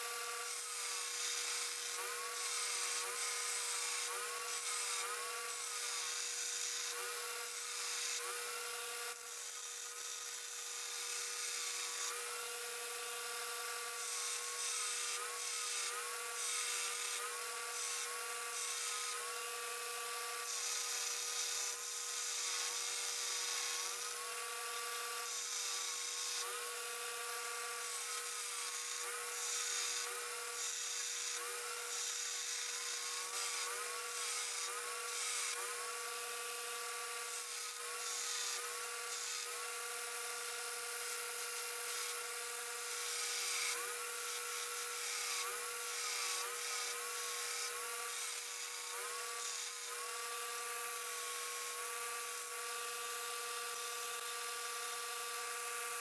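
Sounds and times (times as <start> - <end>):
belt grinder motor whine: 0.0 - 56.0.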